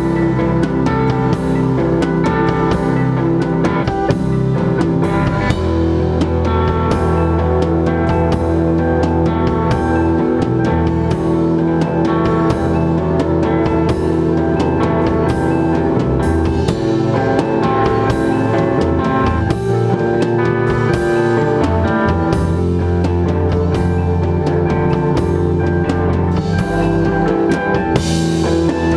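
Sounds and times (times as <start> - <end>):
drum and cymbal hits: 0.0 - 28.9
electric guitars sustained notes: 0.0 - 28.9
rock band playing: 0.0 - 28.9.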